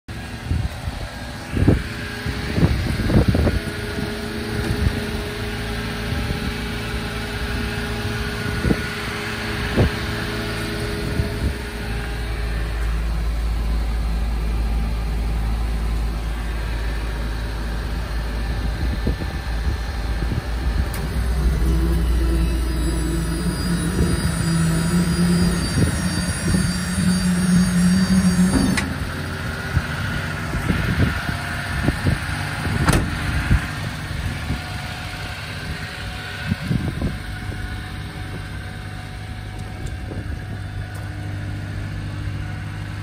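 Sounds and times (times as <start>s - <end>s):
low rumble: 0.1s - 41.0s
truck engine idling: 0.1s - 43.0s.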